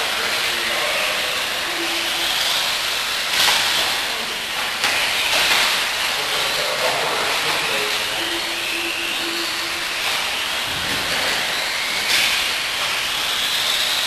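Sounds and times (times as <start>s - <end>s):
electric motors whining: 0.0s - 14.0s.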